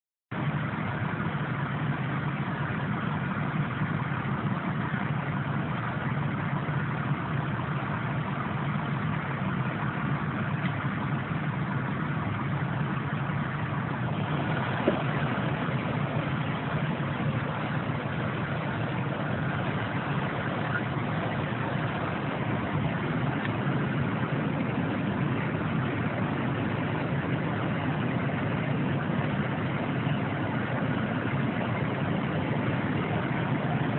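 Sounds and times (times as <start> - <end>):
truck engine idling: 0.3 - 33.9.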